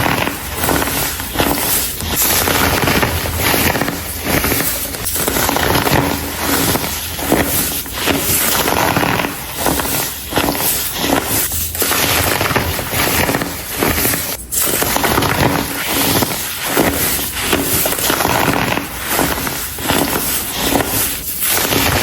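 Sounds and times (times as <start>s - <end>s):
baking soda crunching: 0.0s - 22.0s.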